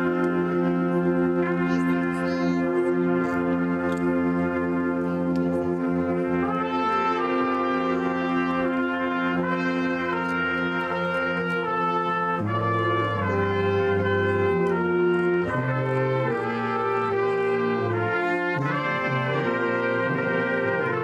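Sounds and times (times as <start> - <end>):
brass band playing slow tune: 0.0 - 21.0.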